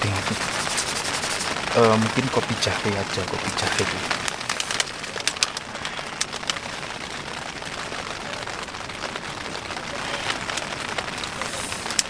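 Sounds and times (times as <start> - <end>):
rain on a tent: 0.0 - 12.0.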